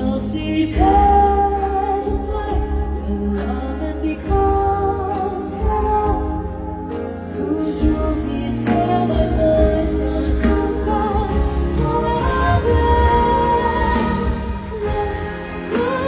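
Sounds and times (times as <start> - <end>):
band playing: 0.0 - 16.0.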